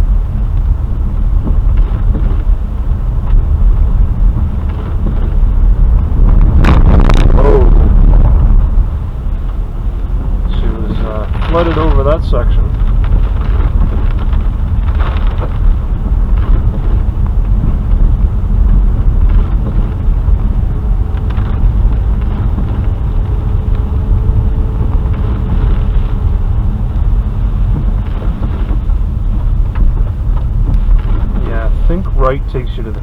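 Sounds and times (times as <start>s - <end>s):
car driving on wet dirt road: 0.0s - 33.0s.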